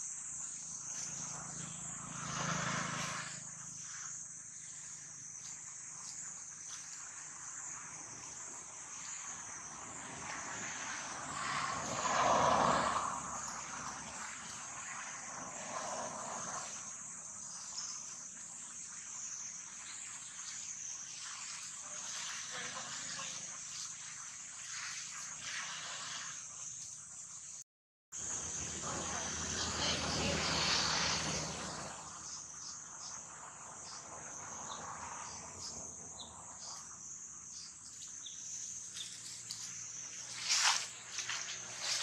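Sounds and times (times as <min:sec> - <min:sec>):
high-pitched insect drone: 0:00.0 - 0:27.6, 0:28.2 - 0:42.0.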